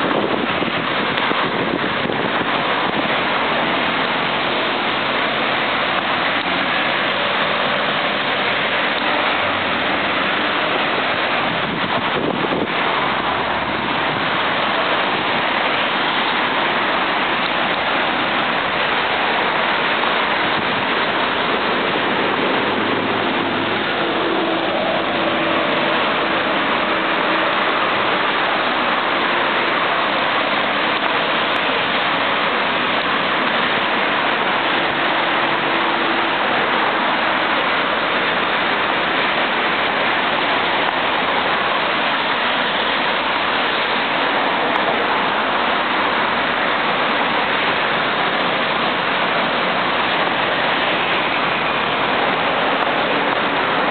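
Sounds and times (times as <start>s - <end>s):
highway traffic hiss: 0.0s - 53.9s
passing vehicle hum: 0.0s - 53.9s.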